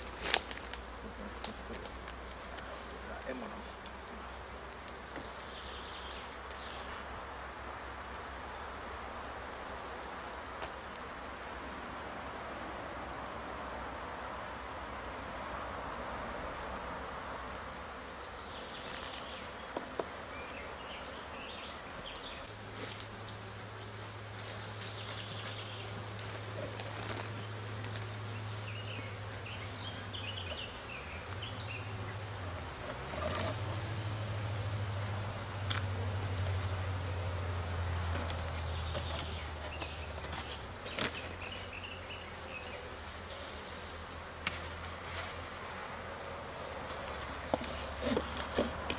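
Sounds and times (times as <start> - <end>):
bees buzzing: 0.0 - 48.9.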